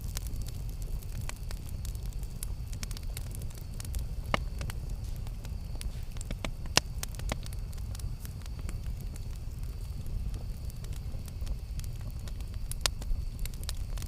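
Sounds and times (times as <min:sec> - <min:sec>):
campfire rumble: 0:00.0 - 0:14.0
fire crackles and pops: 0:00.0 - 0:14.0.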